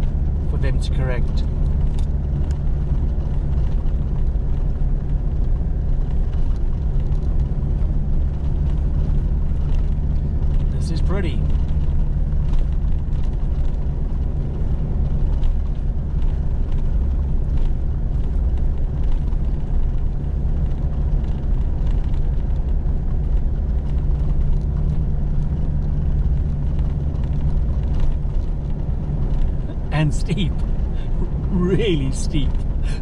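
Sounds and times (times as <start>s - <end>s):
engine pulling uphill: 0.0s - 33.0s
tyres on paved road: 0.0s - 33.0s.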